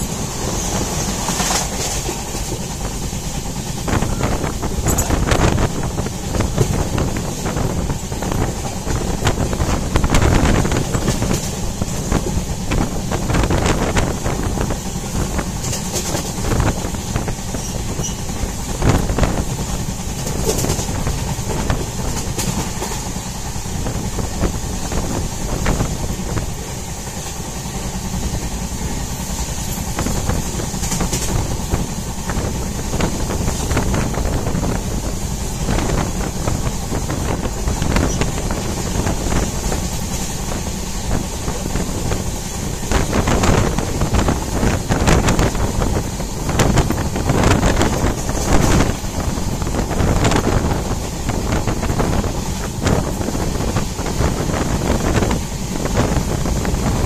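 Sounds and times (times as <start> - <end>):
sharp knocks of train: 0.0 - 57.0
train wheels rumbling on rails: 0.0 - 57.0.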